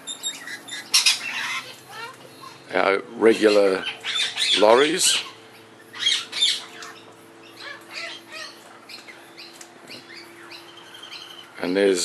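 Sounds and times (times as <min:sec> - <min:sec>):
parrots squawking: 0:00.0 - 0:02.6, 0:03.2 - 0:11.6
faint steady hum: 0:00.0 - 0:12.0.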